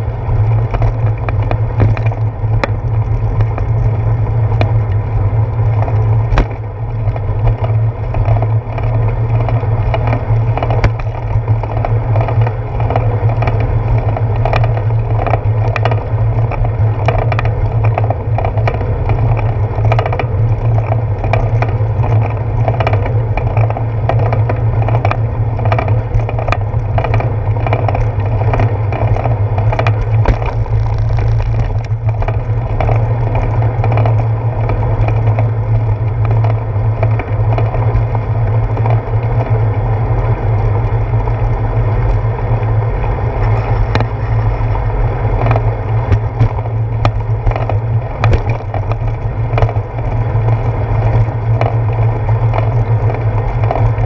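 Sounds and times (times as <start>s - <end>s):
bicycle rolling rumble: 0.0s - 54.0s.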